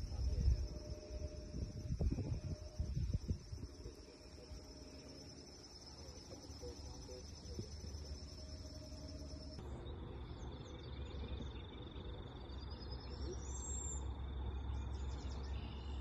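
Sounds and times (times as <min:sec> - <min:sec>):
low background rumble: 0:00.0 - 0:16.0
pulsing insect trills: 0:00.0 - 0:16.0.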